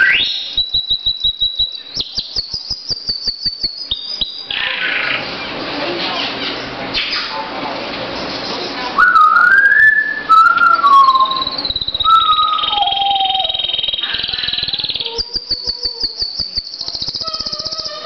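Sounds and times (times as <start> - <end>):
canary singing trills: 0.0 - 6.8, 8.1 - 18.0.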